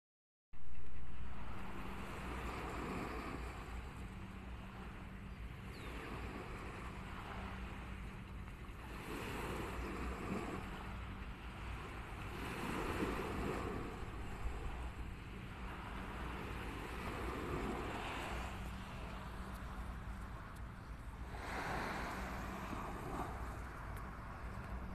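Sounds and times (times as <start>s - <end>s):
waves washing onto beach: 0.6s - 24.9s
wind on microphone: 0.6s - 24.9s.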